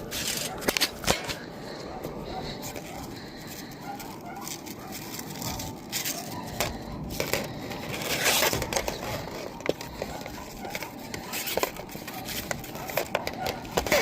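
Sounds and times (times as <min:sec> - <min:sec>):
crinkling scraping handling noises: 0:00.0 - 0:14.0.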